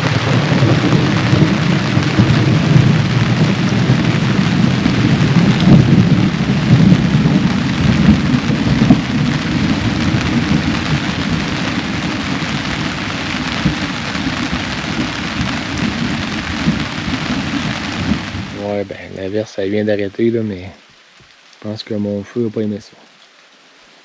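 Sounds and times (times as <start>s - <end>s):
deep thunder rumble: 0.0s - 20.1s
heavy rain downpour: 0.0s - 24.0s.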